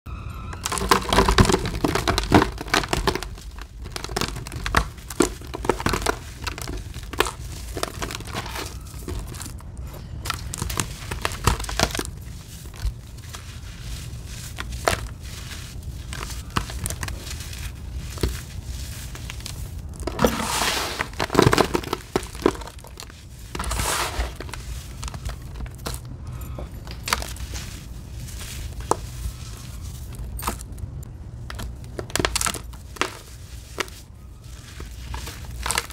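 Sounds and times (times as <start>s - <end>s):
hands crumbling sandy clay: 0.5s - 35.9s.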